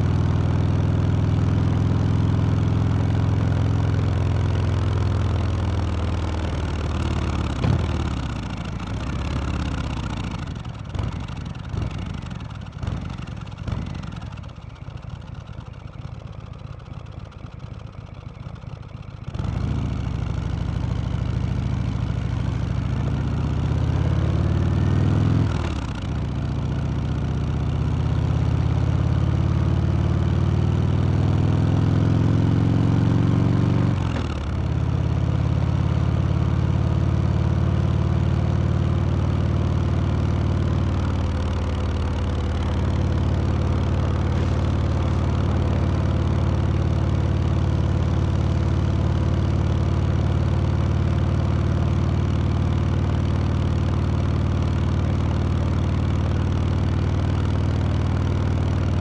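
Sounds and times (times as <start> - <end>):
motorcycle engine shifting gears: 4.8 - 38.0, 39.2 - 59.0.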